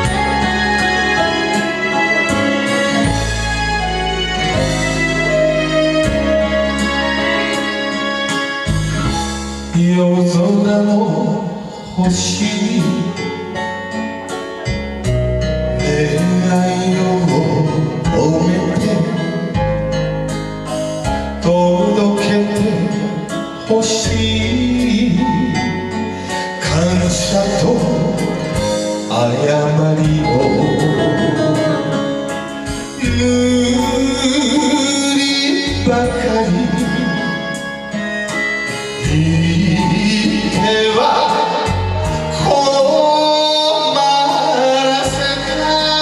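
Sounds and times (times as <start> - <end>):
man singing a ballad: 0.0 - 20.1, 20.7 - 46.0
instrumental backing music: 0.0 - 46.0.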